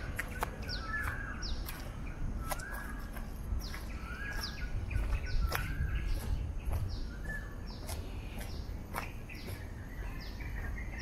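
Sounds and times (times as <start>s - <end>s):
birds calling: 0.0s - 11.0s
footsteps on stone path: 0.0s - 11.0s
steady low rumble: 0.0s - 11.0s.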